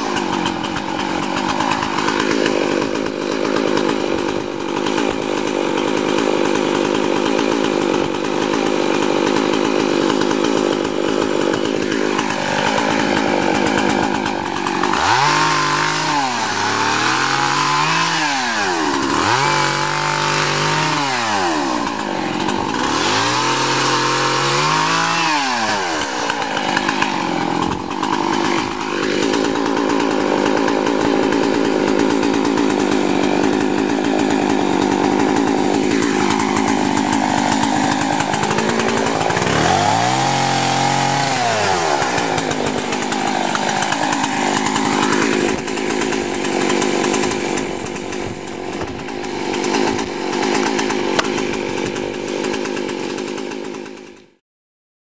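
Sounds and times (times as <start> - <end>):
chainsaw cutting branches: 0.0 - 54.4.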